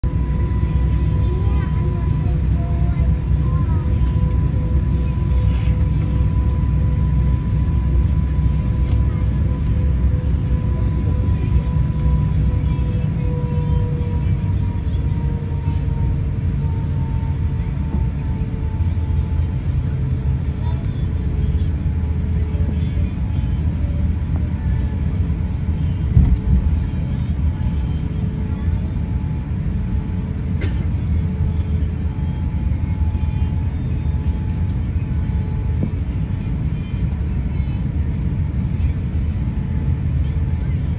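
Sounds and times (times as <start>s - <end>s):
jet engine whine: 0.0s - 40.9s
low taxiing rumble: 0.0s - 40.9s.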